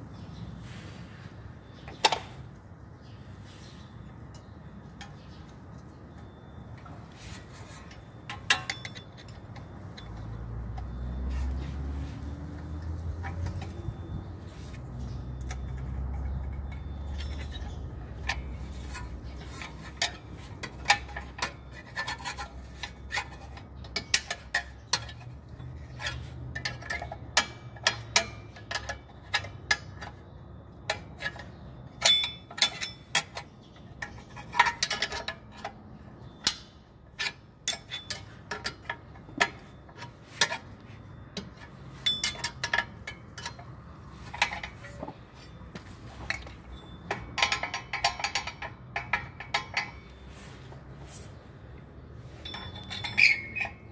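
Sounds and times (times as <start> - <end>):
screwdriver clinking on metal springs: 7.2 - 11.7, 12.4 - 30.2, 30.8 - 50.8, 52.2 - 53.9.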